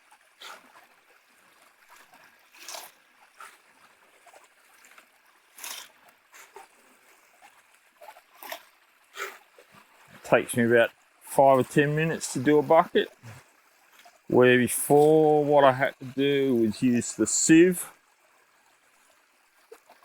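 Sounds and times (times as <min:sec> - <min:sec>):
water splashes: 0:00.0 - 0:20.0
water trickling through sluice box: 0:00.0 - 0:20.0.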